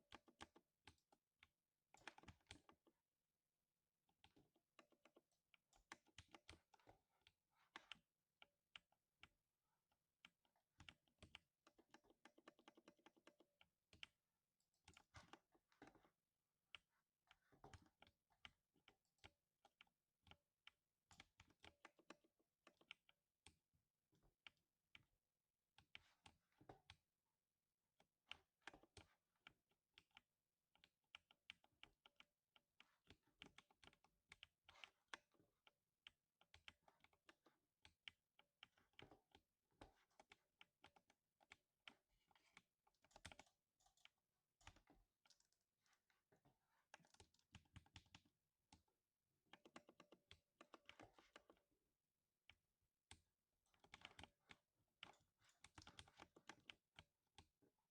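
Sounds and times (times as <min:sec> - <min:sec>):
faint mechanical keyboard typing: 0:00.0 - 0:57.9.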